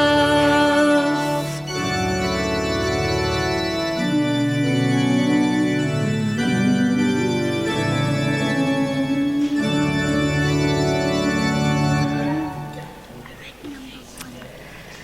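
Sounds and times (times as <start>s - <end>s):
organ playing sustained chords: 0.0s - 13.2s.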